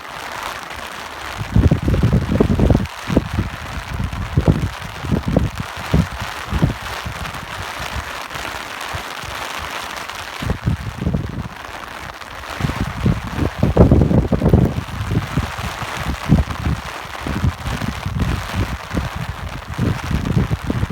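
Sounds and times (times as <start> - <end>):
steady rain hiss: 0.0 - 20.9
wind buffeting microphone: 1.3 - 8.1, 10.4 - 20.9.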